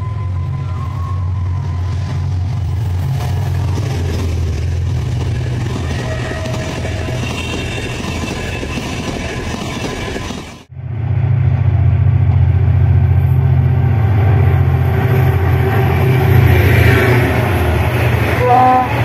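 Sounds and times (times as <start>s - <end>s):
locomotive engine drone: 0.0s - 19.0s
train coaches rolling past: 0.0s - 19.0s.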